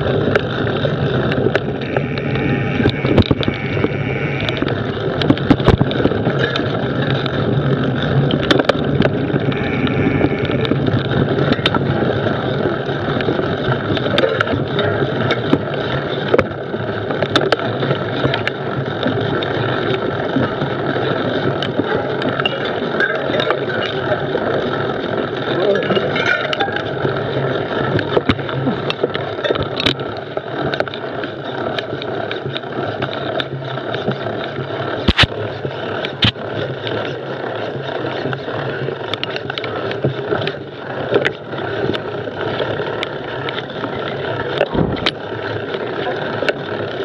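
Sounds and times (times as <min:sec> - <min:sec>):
bike clicks and knocks: 0:00.0 - 0:47.0
bike tyre rumbling on dirt: 0:00.0 - 0:47.0.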